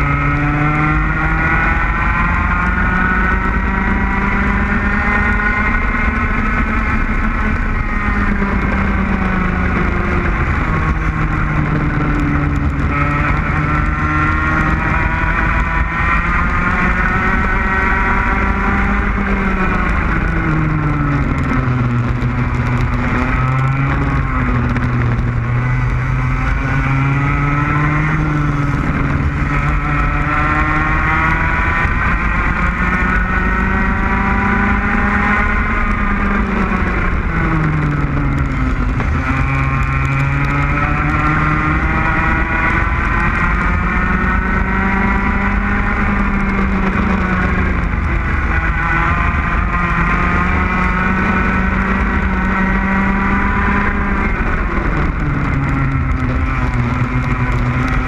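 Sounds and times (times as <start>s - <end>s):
racing kart engine: 0.0s - 58.0s
wind rumble on microphone: 0.0s - 58.0s.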